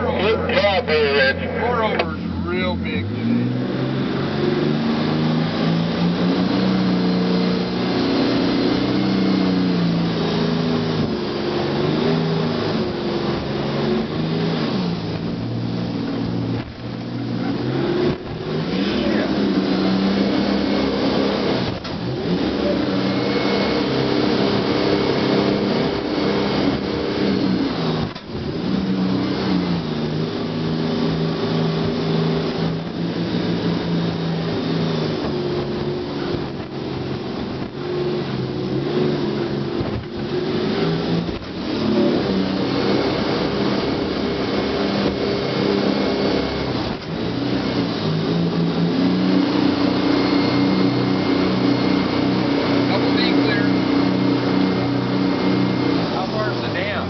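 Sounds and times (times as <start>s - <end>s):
boat engines running hard: 0.0s - 57.0s
rushing water: 0.0s - 57.0s.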